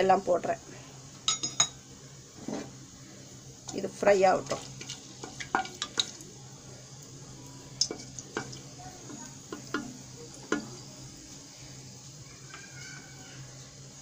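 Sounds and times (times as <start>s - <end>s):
spices sizzling in oil: 0.0s - 14.0s.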